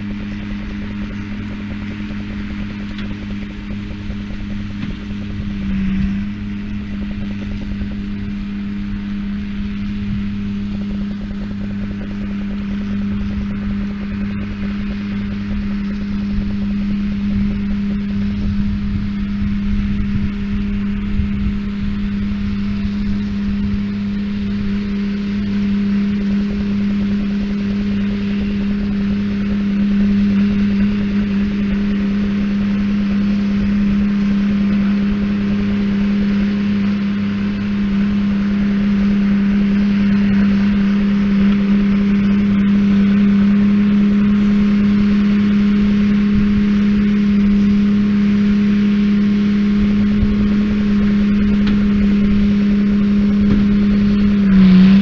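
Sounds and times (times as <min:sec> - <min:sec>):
baler machinery working: 0:00.0 - 0:55.0
tractor engine running: 0:00.0 - 0:55.0.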